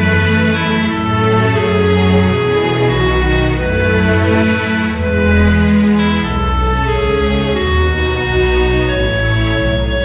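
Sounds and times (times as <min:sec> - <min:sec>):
slow sad instrumental music: 0:00.0 - 0:10.0.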